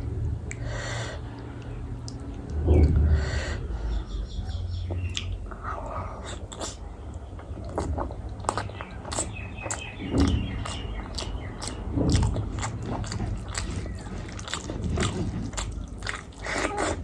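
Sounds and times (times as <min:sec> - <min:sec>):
close-miked chewing: 0:00.4 - 0:02.9, 0:04.4 - 0:17.0.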